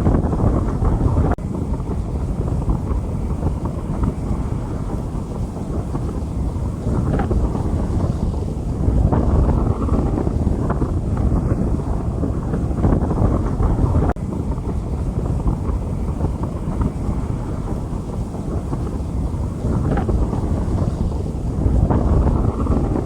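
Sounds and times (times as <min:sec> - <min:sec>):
wind buffeting the microphone: 0:00.0 - 0:23.0
rain falling on a street: 0:00.1 - 0:23.0.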